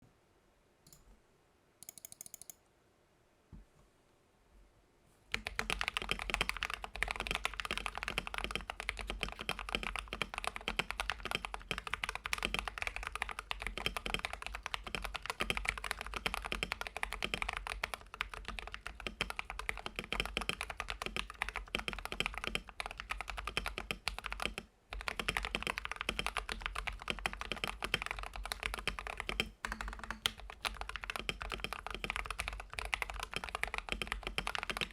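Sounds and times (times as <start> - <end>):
mechanical keyboard typing: 1.8 - 2.6, 5.3 - 34.9.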